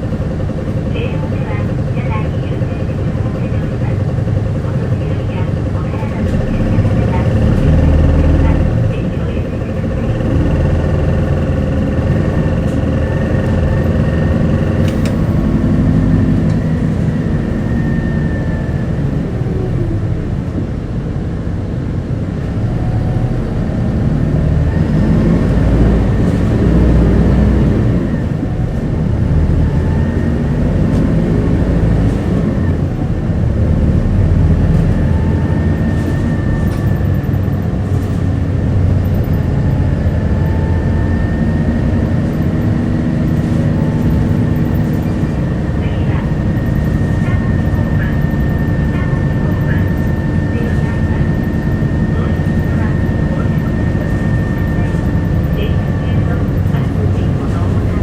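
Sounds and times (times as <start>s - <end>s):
bus diesel engine accelerating: 0.0s - 58.0s
road rumble: 0.0s - 58.0s.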